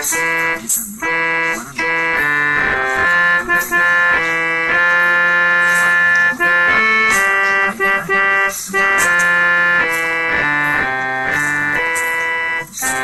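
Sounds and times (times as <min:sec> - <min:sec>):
bus air horns playing a tune: 0:00.0 - 0:13.0.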